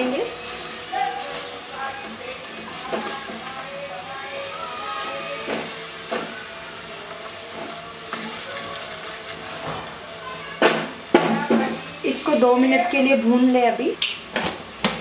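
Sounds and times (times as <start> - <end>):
paste sizzling in oil: 0.0 - 15.0.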